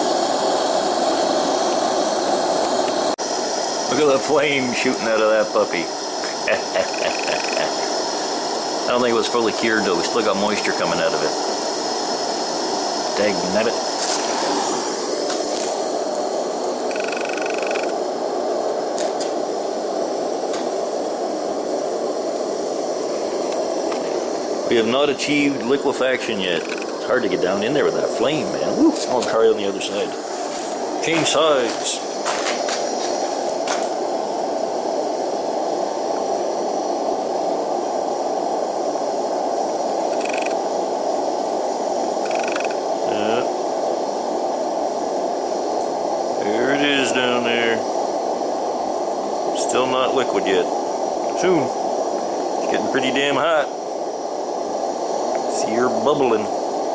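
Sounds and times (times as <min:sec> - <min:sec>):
burner flame rushing: 0:00.0 - 0:56.9.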